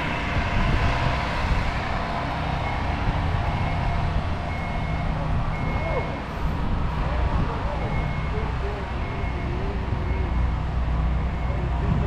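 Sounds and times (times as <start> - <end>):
bus running and road rumble: 0.0 - 12.0.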